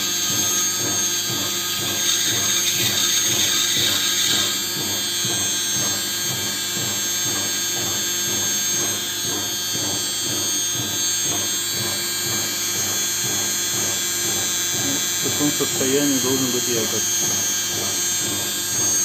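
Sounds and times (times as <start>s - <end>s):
electric motor whining: 0.0s - 6.4s, 7.2s - 19.0s.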